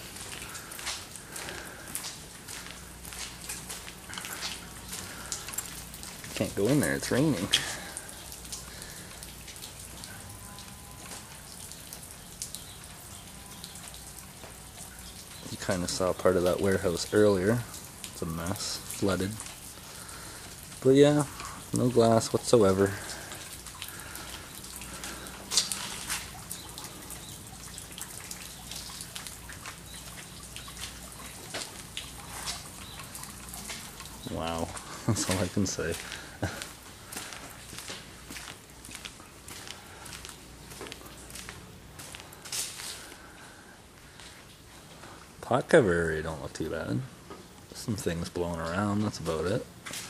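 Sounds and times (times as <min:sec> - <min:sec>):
sharp drip ticks: 0:00.0 - 0:45.6
low steady hiss: 0:00.0 - 0:50.0
rain falling: 0:00.0 - 0:50.0.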